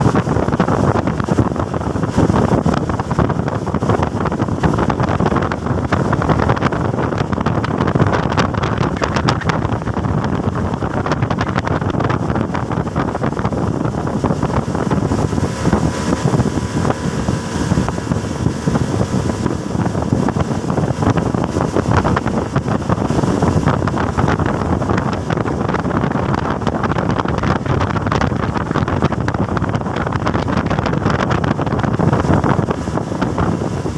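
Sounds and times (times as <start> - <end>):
speedboat engine and water rush: 0.0 - 33.9
wind buffeting microphone: 0.0 - 33.9.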